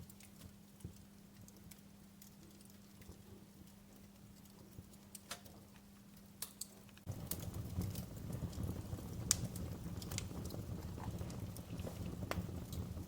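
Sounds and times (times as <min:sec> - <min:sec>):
faint steady hum: 0:00.0 - 0:13.0
wood fire crackling: 0:00.0 - 0:13.0.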